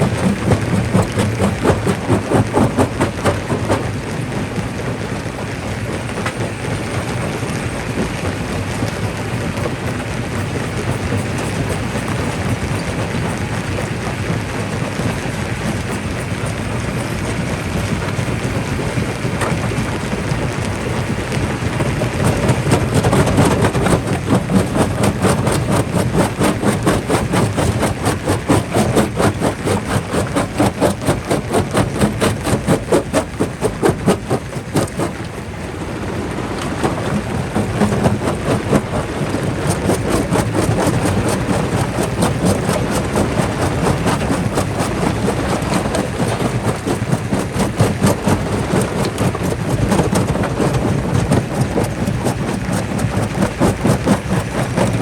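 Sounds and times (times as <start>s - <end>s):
rock crusher rumbling: 0.0s - 55.0s.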